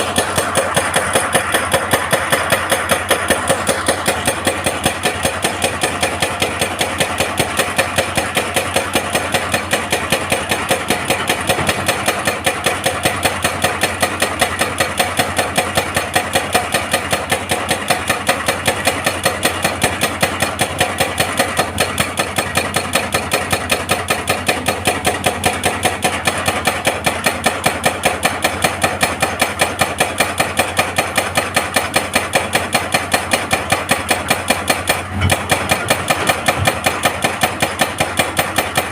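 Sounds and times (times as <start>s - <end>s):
excavator engine running: 0.0s - 38.9s
hydraulic breaker hammering rock: 0.0s - 38.9s.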